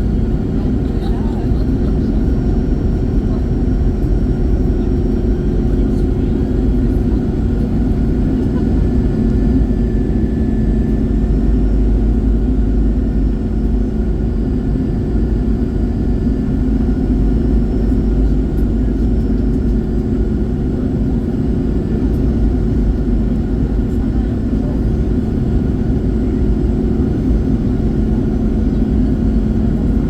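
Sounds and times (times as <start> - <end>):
aircraft cabin drone: 0.0 - 30.0.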